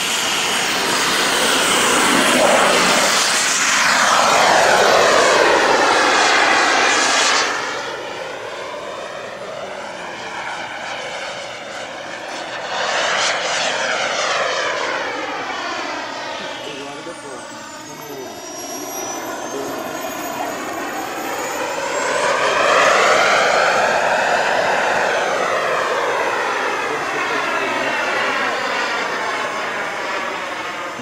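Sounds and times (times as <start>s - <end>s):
model jet turbine rush and whine: 0.0s - 31.0s.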